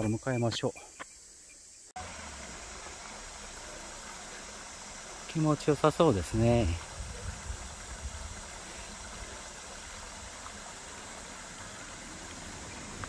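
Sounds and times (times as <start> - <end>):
running water: 2.0 - 13.0.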